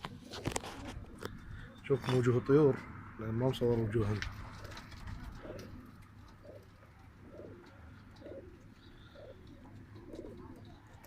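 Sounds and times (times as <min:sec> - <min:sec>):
pigeons cooing softly: 0:00.0 - 0:11.0.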